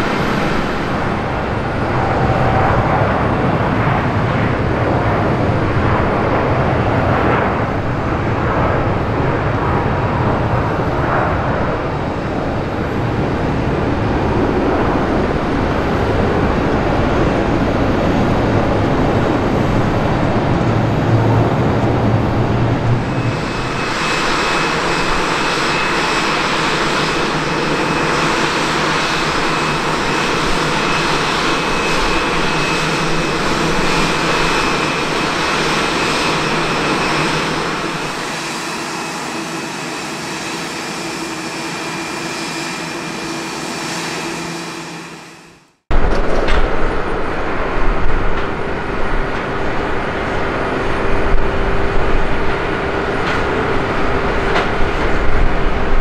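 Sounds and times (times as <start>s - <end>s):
jet engine whine: 0.0s - 56.0s
jet engines rumbling at takeoff: 0.0s - 56.0s.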